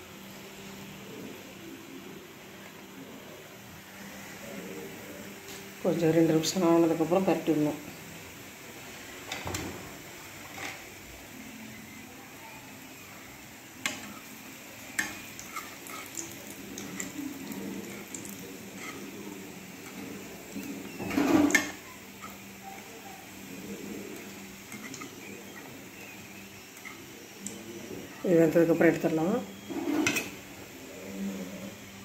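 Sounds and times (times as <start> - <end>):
oil sizzling and bubbling: 3.9 - 32.0.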